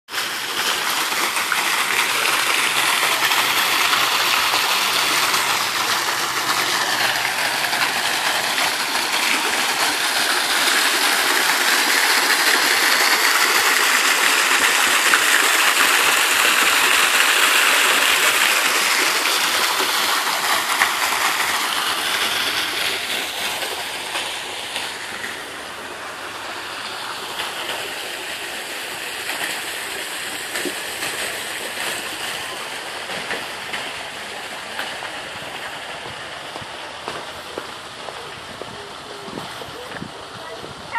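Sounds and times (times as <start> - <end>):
rushing water: 0.1 - 40.9.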